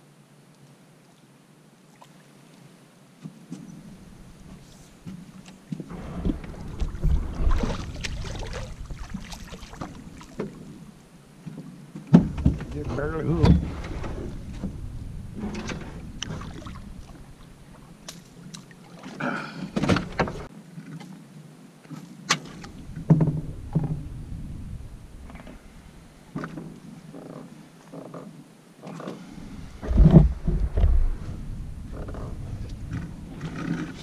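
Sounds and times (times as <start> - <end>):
knocks and thumps in boat: 3.2 - 21.0, 22.0 - 34.0.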